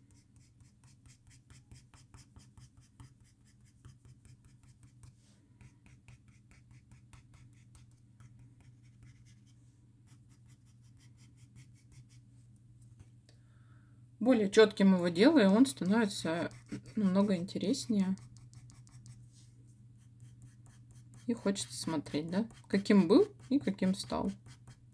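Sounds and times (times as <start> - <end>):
pencil scratching on paper: 0.0 - 12.2, 14.9 - 19.4, 20.0 - 24.9
low steady hum: 0.0 - 24.9.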